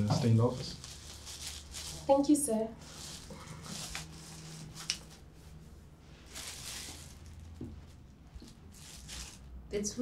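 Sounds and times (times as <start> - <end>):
soft rustle: 0.8 - 9.5.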